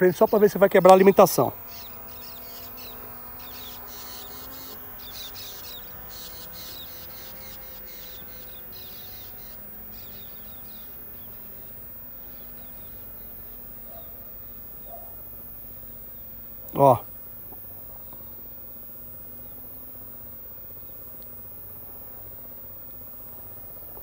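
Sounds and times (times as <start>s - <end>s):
birds chirping: 0.0s - 24.0s
faint steady hum: 0.0s - 24.0s.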